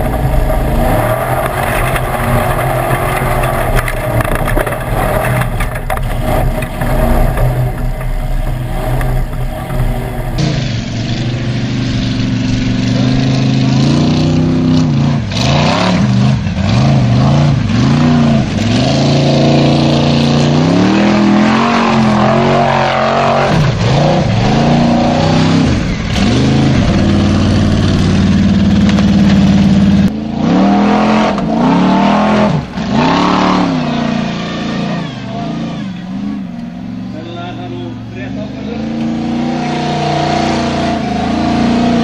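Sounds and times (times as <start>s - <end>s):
engine revving hard: 0.0s - 37.3s, 38.4s - 42.0s.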